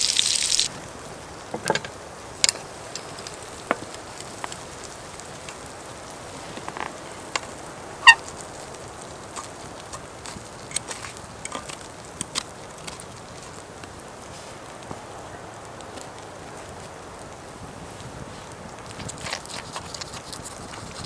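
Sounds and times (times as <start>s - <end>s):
campfire crackling: 0.0s - 21.0s
faint hiss: 0.0s - 21.0s.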